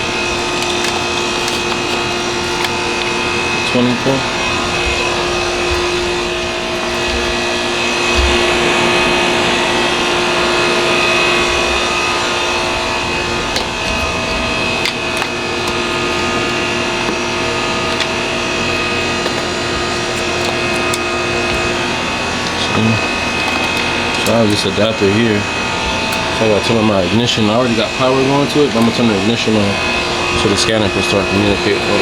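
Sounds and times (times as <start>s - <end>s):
small electric motor whirring: 0.0s - 32.0s.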